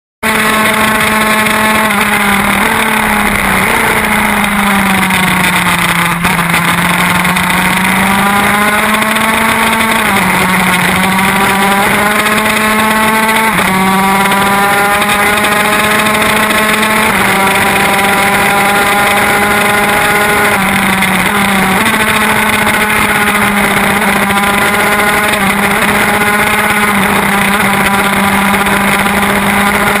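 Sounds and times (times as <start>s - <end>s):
motorcycle engine revving: 0.2s - 30.0s.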